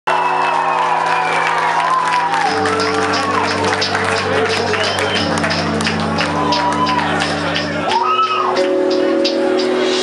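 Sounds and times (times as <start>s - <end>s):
audience cheering and whooping: 0.1s - 8.7s
live concert music chord: 0.1s - 10.0s.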